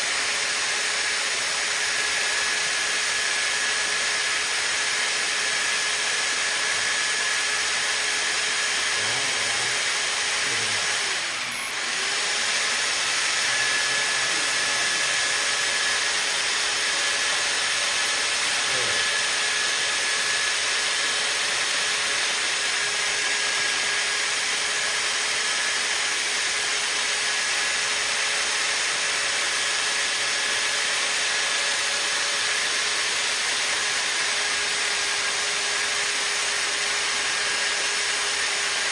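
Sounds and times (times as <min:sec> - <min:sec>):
drain-cleaning machine running: 0:00.0 - 0:38.9.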